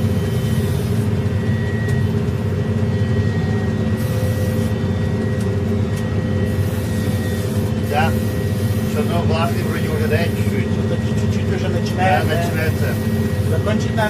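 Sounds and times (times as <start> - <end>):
combine harvester diesel drone: 0.0 - 14.0
thin machine whines: 0.0 - 14.0.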